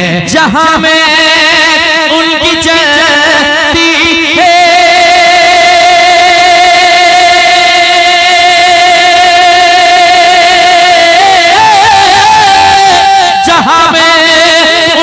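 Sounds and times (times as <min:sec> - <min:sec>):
man singing: 0:00.0 - 0:15.0.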